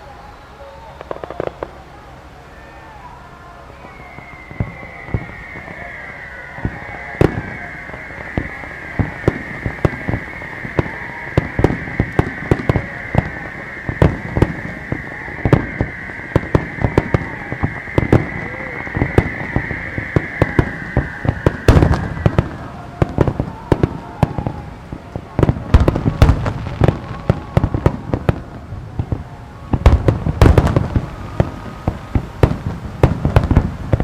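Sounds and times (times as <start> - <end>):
fireworks bangs and crackles: 0.0 - 34.0
high fireworks whistle: 0.0 - 34.0
heavy firework boom: 3.9 - 34.0.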